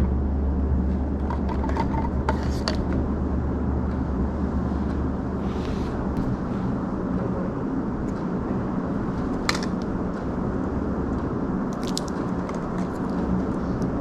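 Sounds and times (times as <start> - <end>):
steady low rumbling: 0.0 - 14.0.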